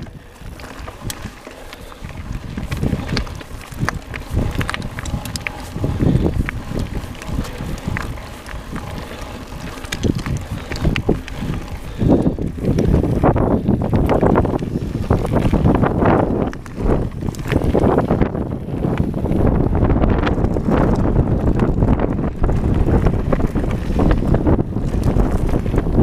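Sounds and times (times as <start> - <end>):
bike tyres crunching over stones: 0.0 - 26.0
wind buffeting microphone: 0.0 - 26.0.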